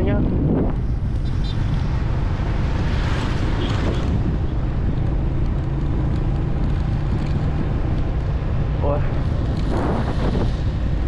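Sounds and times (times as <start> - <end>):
moving vehicle running noise: 0.0 - 11.0
wind buffeting microphone: 0.0 - 11.0.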